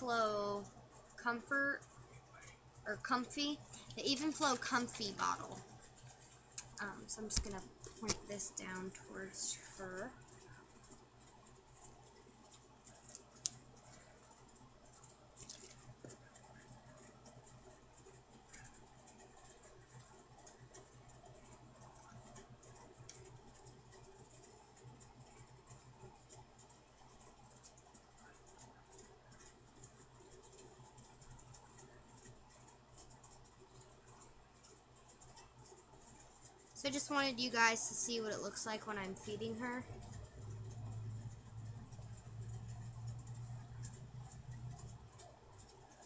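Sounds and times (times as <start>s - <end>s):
low hum and hiss: 0.0s - 46.0s.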